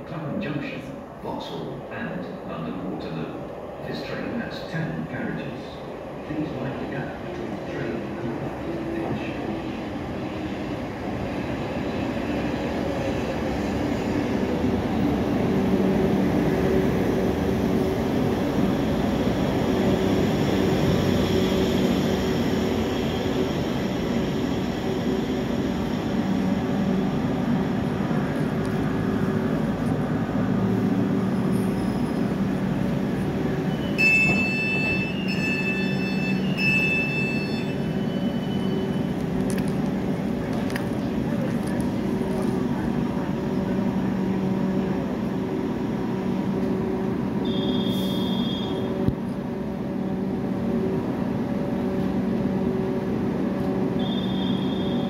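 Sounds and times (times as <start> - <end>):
train wheels rumbling: 1.4 - 55.0.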